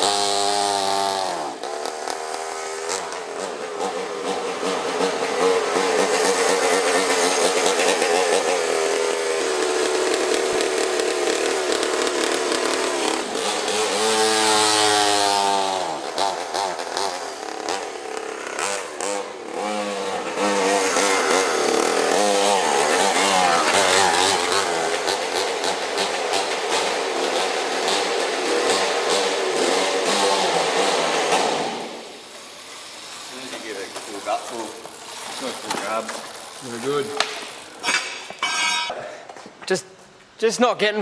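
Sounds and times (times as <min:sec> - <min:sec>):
small engine revving: 0:00.0 - 0:38.7.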